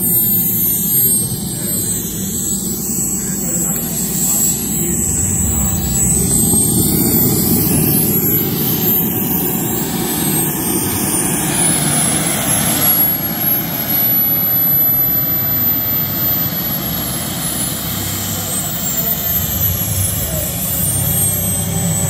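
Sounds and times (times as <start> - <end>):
exhaust rushing: 0.0 - 22.0
model jet turbine whine: 0.0 - 22.0.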